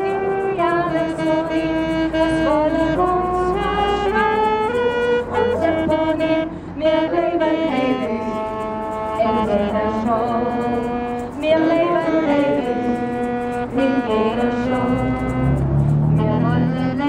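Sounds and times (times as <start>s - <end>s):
woman singing into a microphone: 0.0s - 4.7s, 5.3s - 15.4s, 16.2s - 17.0s
saxophone: 0.0s - 17.0s.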